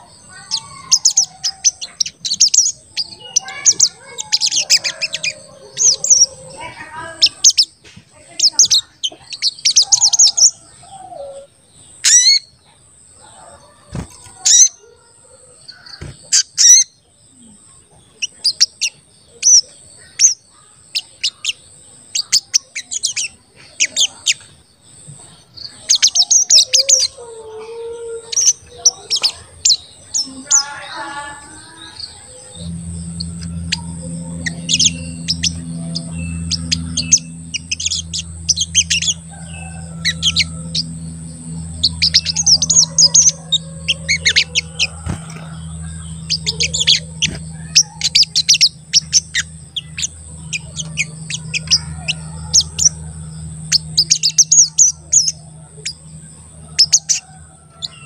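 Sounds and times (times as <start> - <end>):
bird chirping rapidly: 0.0 - 12.6, 13.9 - 14.8, 15.6 - 17.0, 18.1 - 27.2, 28.1 - 58.0.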